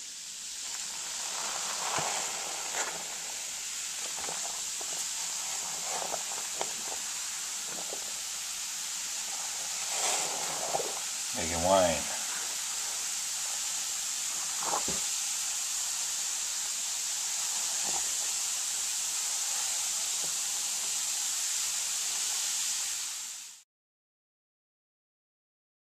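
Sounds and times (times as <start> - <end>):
fermenting liquid fizzing: 0.0 - 23.6.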